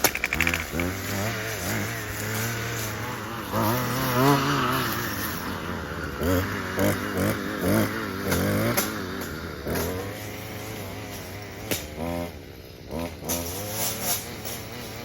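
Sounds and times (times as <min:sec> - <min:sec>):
small petrol engine revving: 0:00.0 - 0:15.0.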